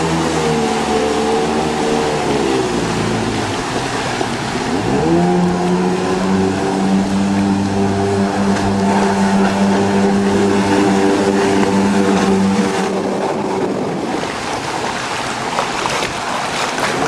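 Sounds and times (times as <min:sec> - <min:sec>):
jet ski engine droning: 0:00.0 - 0:17.0.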